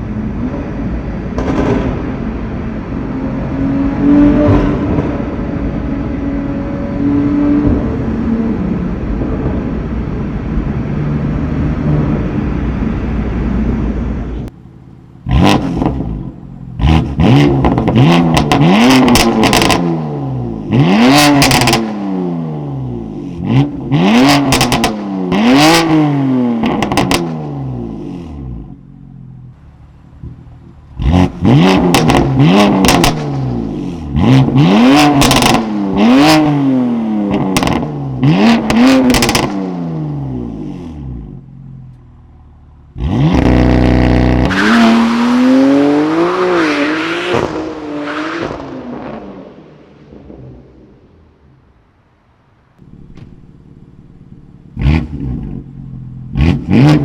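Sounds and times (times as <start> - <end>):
car engine accelerating hard: 0.0 - 14.5, 15.2 - 28.8, 29.6 - 49.6, 52.8 - 57.0.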